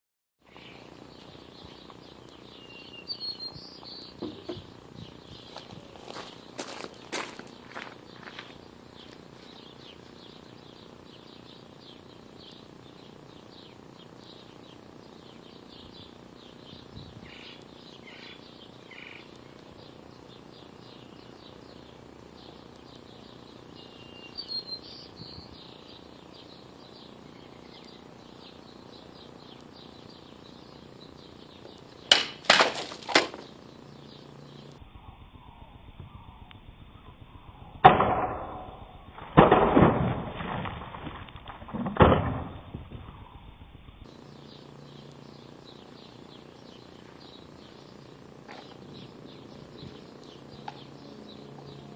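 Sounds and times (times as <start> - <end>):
birds chirping: 0.4 - 36.4, 44.1 - 51.9.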